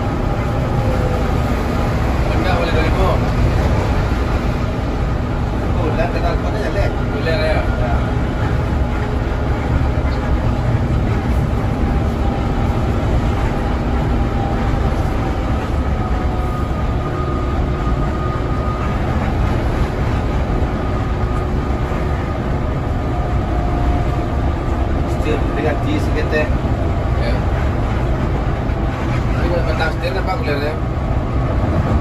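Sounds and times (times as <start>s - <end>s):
coach bus engine droning: 0.0s - 32.0s
faint steady whines: 0.0s - 32.0s
road noise: 0.0s - 32.0s.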